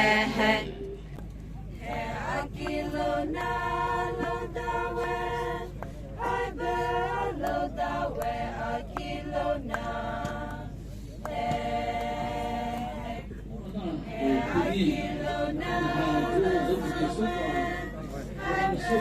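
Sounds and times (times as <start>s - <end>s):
voices singing unaccompanied chant: 0.0s - 1.0s, 1.7s - 19.0s.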